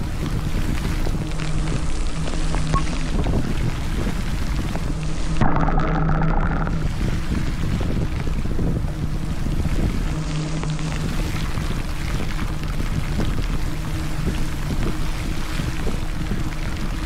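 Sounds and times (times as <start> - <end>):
bicycle tyre rumble: 0.0 - 17.0
wind buffeting microphone: 0.0 - 17.0.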